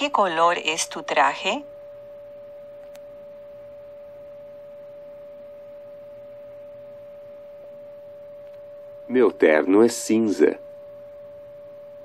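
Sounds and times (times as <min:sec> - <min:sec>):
steady electronic tone: 0:00.0 - 0:12.0.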